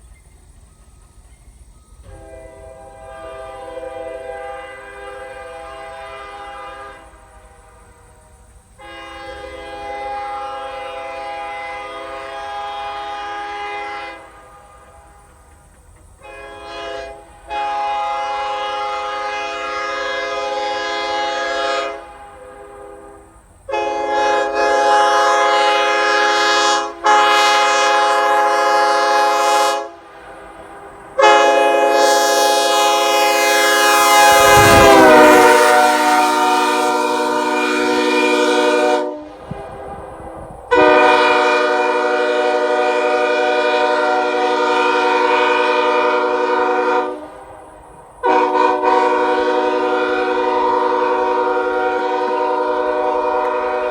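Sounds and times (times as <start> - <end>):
locomotive air horn chord blasts: 2.0 - 15.4, 16.2 - 47.6, 48.2 - 53.9.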